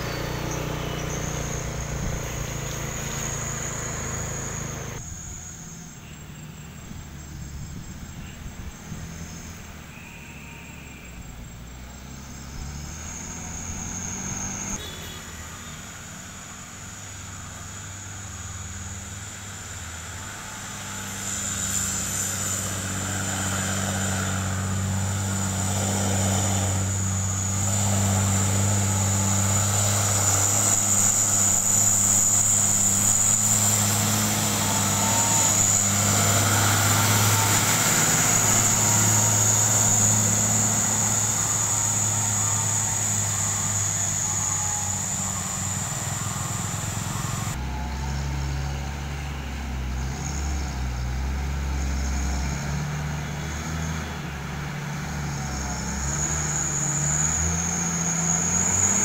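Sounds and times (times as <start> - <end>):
diesel truck engine running: 0.0 - 59.0
high-pitched whine: 0.0 - 59.0.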